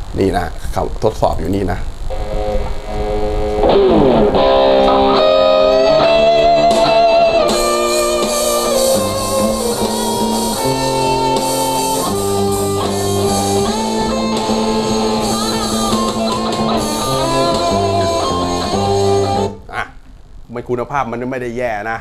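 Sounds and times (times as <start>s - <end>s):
electric guitar lead line: 1.2s - 19.8s.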